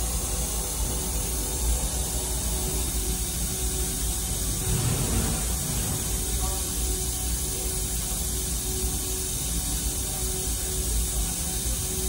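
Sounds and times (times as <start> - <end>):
low machinery hum: 0.0 - 12.0
steady hiss: 0.0 - 12.0.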